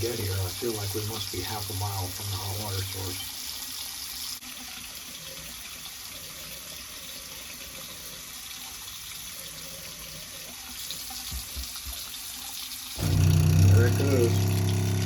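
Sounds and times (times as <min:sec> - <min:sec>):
faucet running into sink: 0:00.0 - 0:15.0.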